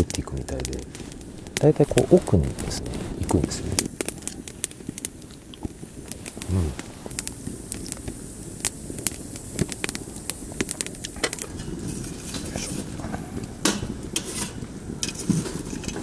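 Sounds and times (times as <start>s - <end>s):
sharp pops and snaps of fire: 0.0s - 16.0s
wood fire crackling: 0.0s - 16.0s.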